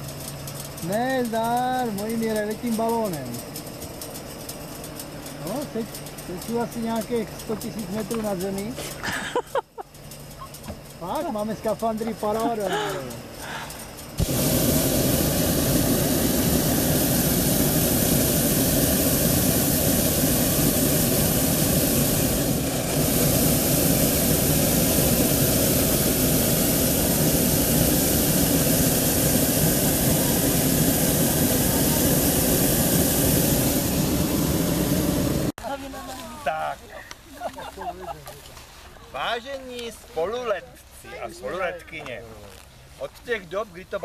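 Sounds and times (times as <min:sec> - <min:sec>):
propane burner roaring: 0:00.0 - 0:42.2.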